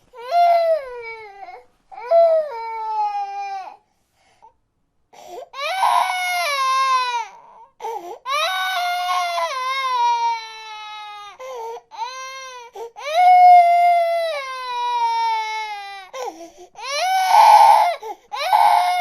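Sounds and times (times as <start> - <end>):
baby crying: 0.1 - 3.8, 5.5 - 19.0.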